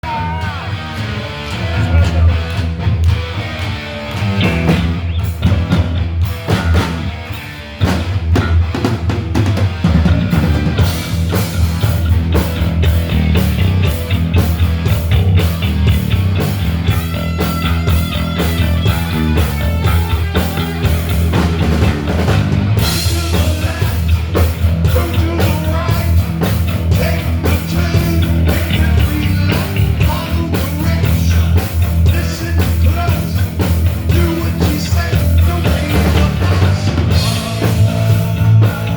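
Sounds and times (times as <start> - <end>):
rock music: 0.0 - 38.9.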